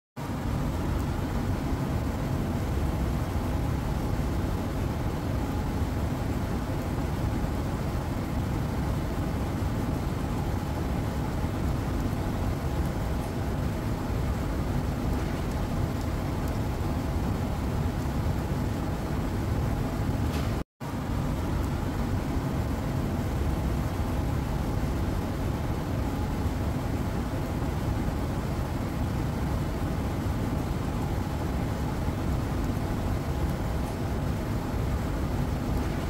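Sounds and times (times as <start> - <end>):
low rumbling noise: 0.2 - 36.0.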